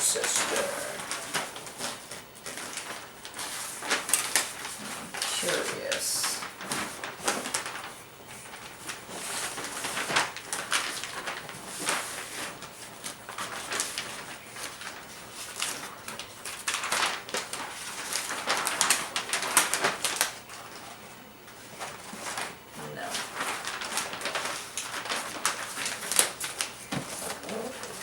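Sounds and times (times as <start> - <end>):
wrapping paper rustling: 0.0 - 28.0.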